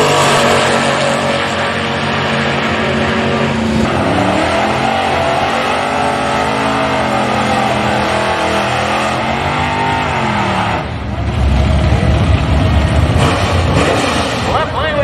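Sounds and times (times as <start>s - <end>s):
racing car engine revving: 0.0s - 14.9s.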